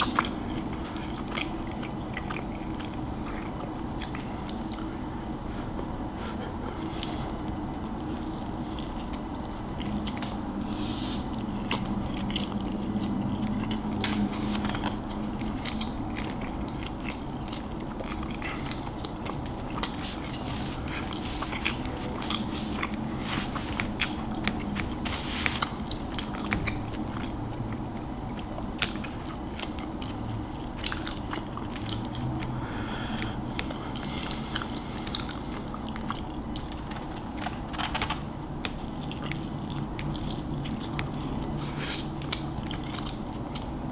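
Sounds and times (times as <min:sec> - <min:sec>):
person chewing: 0:00.0 - 0:05.0, 0:06.7 - 0:37.7, 0:38.5 - 0:43.9.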